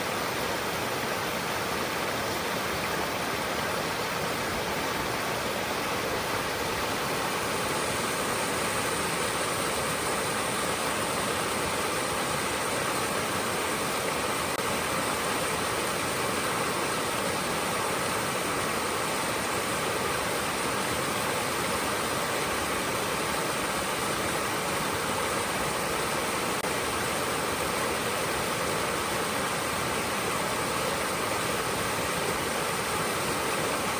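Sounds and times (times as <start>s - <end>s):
stream flowing over stones: 0.0s - 33.9s.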